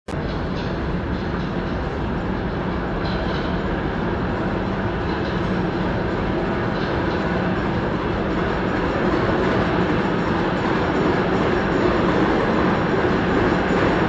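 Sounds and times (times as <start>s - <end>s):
subway train rumbling on track: 0.1s - 14.0s.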